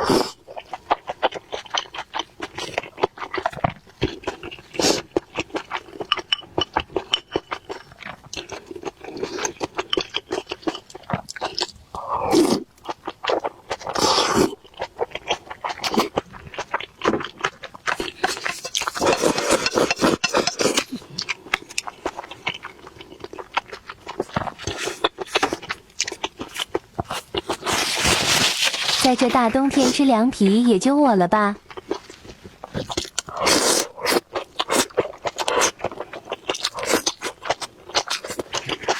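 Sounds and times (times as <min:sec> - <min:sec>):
person chewing with wet mouth sounds: 0:00.0 - 0:30.1, 0:31.6 - 0:38.9.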